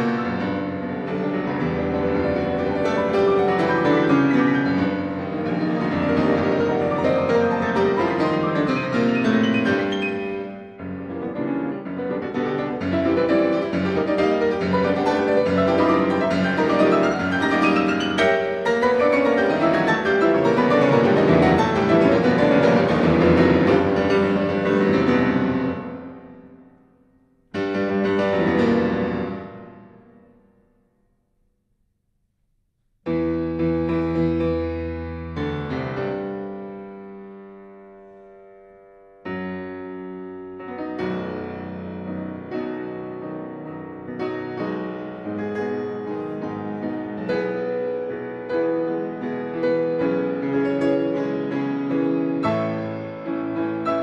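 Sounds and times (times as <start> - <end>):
solo piano music: 0.0 - 31.0, 33.1 - 54.0.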